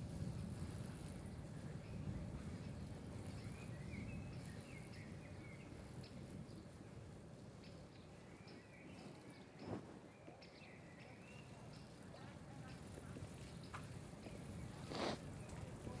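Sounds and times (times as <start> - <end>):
songbirds chirping: 0.1 - 16.0.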